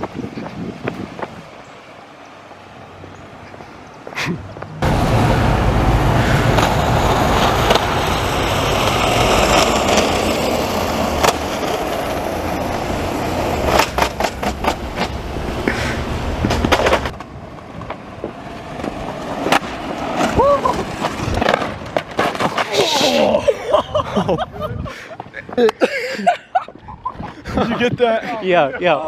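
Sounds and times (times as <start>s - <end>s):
skateboard wheels rolling on pavement: 0.0s - 29.0s.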